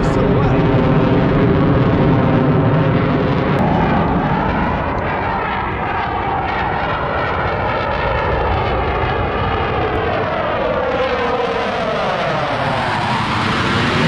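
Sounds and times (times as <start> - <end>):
fighter jet roar passing overhead: 0.0 - 14.0.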